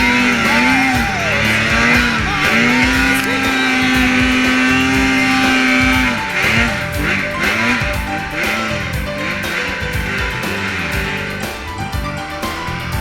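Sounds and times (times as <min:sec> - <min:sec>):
snowmobile engine revving high: 0:00.0 - 0:13.0.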